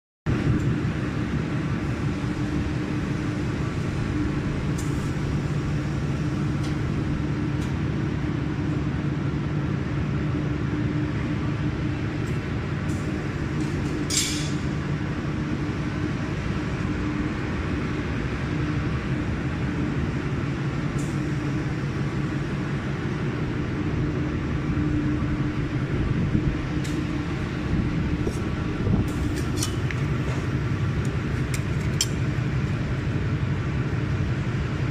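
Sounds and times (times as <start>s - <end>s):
machine fans humming: 0.3s - 34.9s.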